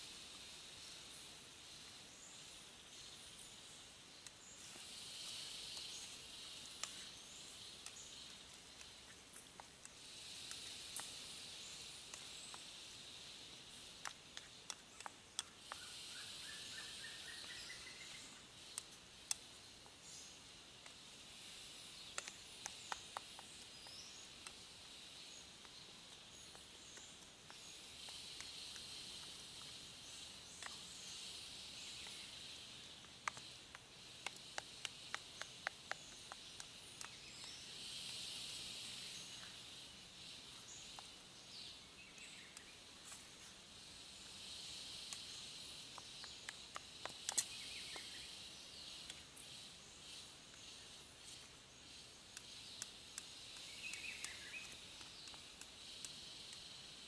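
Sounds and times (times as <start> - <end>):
insect drone: 0.0 - 57.0.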